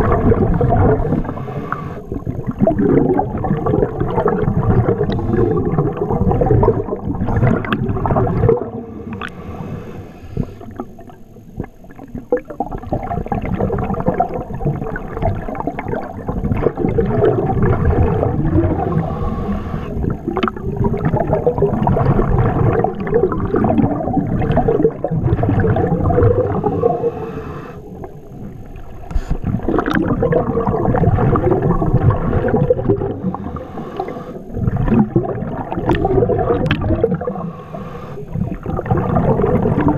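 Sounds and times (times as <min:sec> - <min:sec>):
scuba regulator bubbles gurgling: 0:00.0 - 0:39.9.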